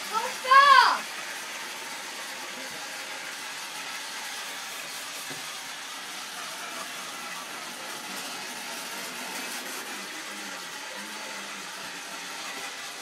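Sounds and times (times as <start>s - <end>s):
toy train steam hissing: 0.0s - 13.0s.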